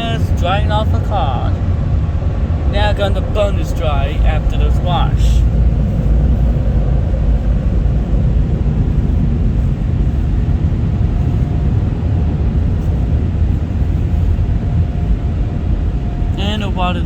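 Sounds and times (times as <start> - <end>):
car wash dryer blowers: 0.0 - 17.0
faint steady whine: 0.0 - 17.0.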